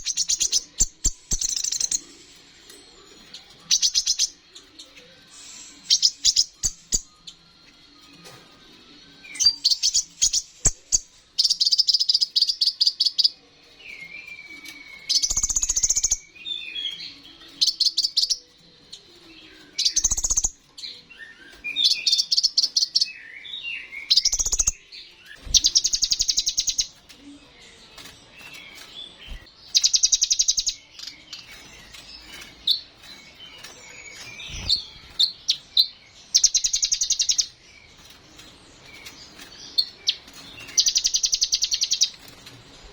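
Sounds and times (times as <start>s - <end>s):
sunbird singing: 0.0s - 7.5s, 8.8s - 27.8s, 28.4s - 42.2s.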